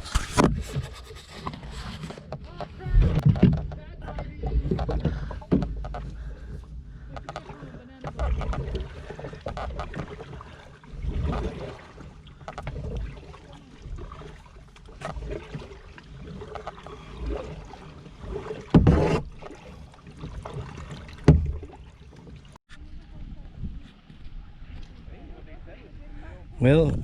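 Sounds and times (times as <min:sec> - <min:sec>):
paddle splashing water: 0:00.0 - 0:26.6.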